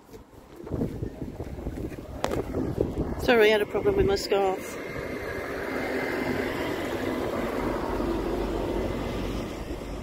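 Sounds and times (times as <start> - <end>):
car road and engine noise: 0.0 - 10.0
low rumble: 0.7 - 10.0.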